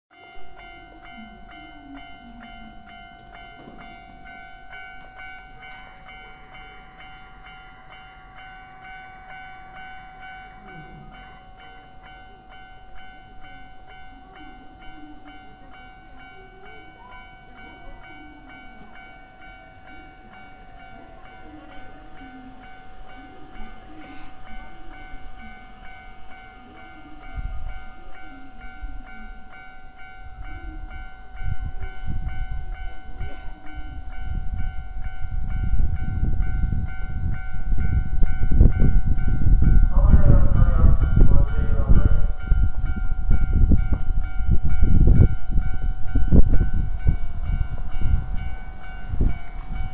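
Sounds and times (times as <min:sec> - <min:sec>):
level crossing warning bell: 0:00.1 - 0:49.9.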